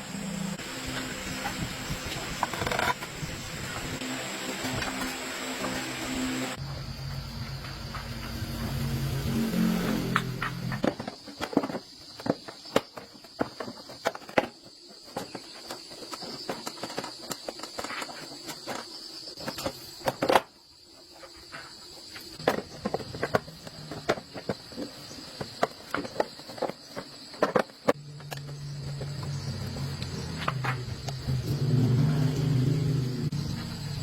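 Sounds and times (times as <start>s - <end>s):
high-pitched insect trill: 0.0s - 34.0s.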